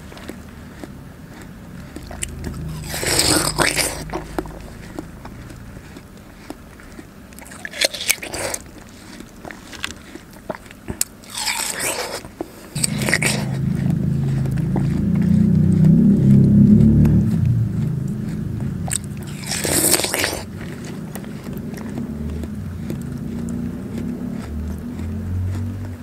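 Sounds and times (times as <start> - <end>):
biting into watermelon: 0.0 - 26.0
chewing: 0.0 - 26.0
low steady hum: 0.0 - 26.0.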